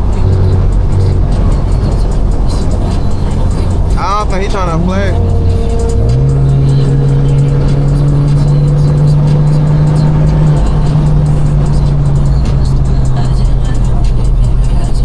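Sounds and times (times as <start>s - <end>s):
car exhaust droning: 0.0s - 15.0s
music: 0.0s - 15.0s.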